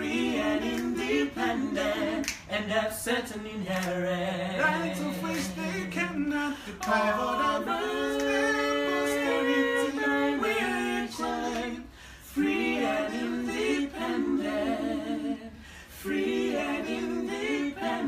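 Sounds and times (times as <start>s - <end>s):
vocal group singing a cappella: 0.0s - 18.0s.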